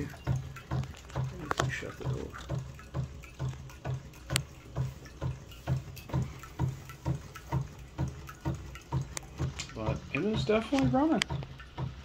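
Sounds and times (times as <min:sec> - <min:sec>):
model engine knocking and clicking: 0:00.0 - 0:12.0
water splashing from pump: 0:00.0 - 0:12.0.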